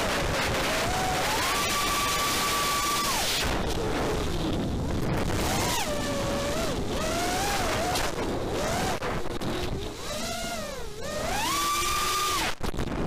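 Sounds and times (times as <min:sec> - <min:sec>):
drone motors whining: 0:00.0 - 0:13.0
wind rush: 0:00.0 - 0:13.0.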